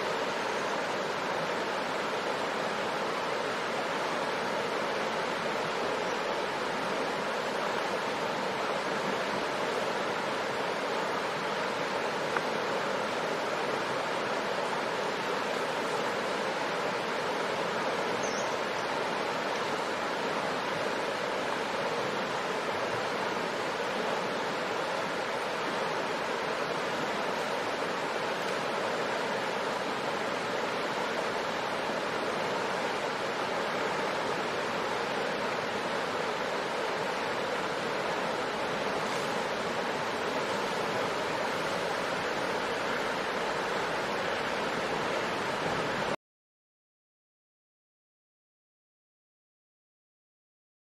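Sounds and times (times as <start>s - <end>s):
river rushing over rocks: 0.0s - 46.2s.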